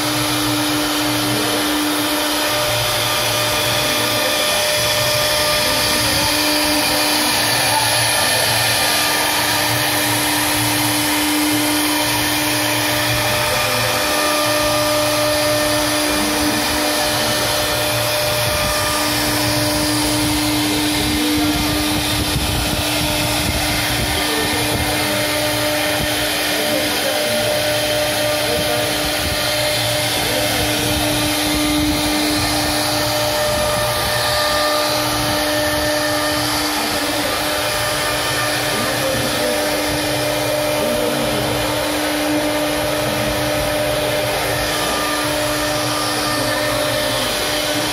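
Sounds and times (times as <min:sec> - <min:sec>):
router spindle whining: 0:00.0 - 0:47.9.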